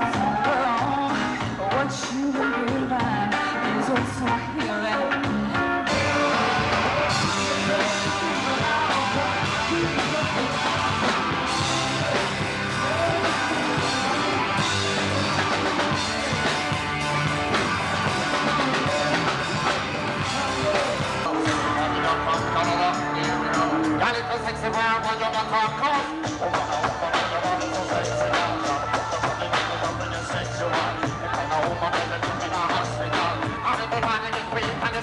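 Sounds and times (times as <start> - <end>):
rock band playing with singing: 0.0 - 35.0.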